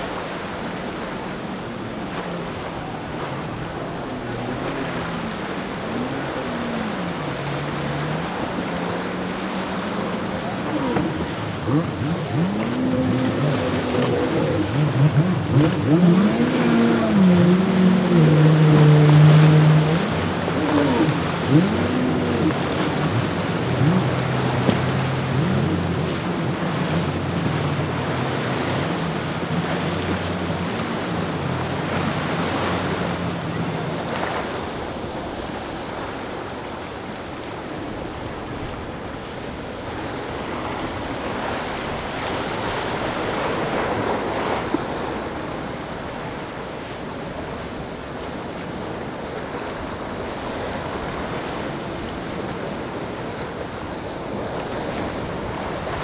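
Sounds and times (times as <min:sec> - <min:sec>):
boat outboard engines: 0:00.0 - 0:56.0
waves rushing: 0:00.0 - 0:56.0.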